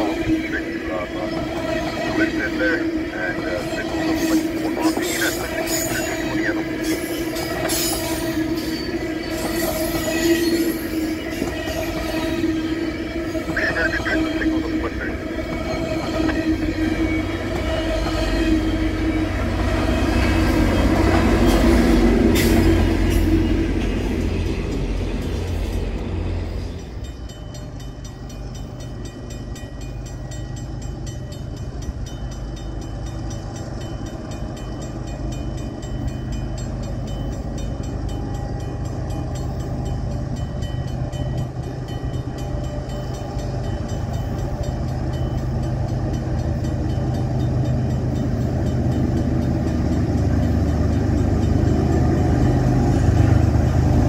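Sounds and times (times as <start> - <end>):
diesel train passing: 0.0 - 54.0.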